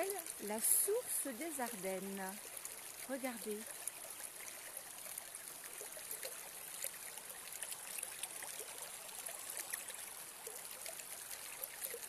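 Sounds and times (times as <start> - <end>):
water trickling over gravel: 0.0 - 12.0.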